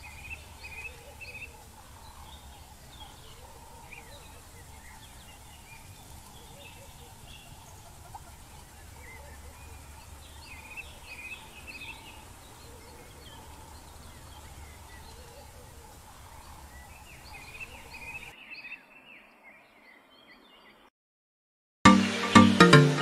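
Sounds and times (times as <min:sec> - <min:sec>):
birds chirping and calling: 0:00.0 - 0:20.8.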